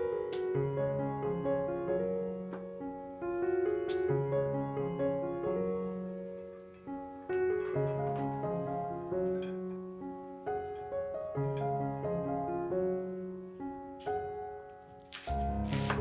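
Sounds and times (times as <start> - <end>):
gentle solo piano music: 0.0 - 16.0.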